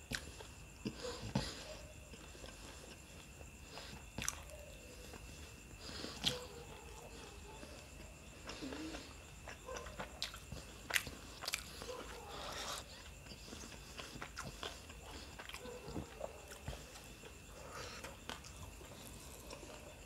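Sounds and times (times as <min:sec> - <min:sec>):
man chewing with wet smacks: 0:00.0 - 0:20.0.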